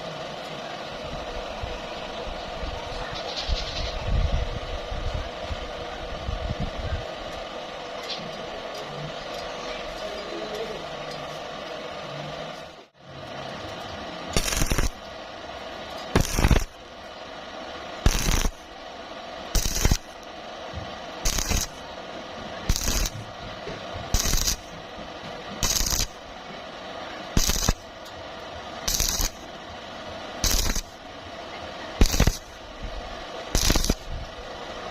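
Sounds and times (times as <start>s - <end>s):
steady hum: 0.0s - 34.9s
welding arc crackling in bursts: 0.0s - 34.9s.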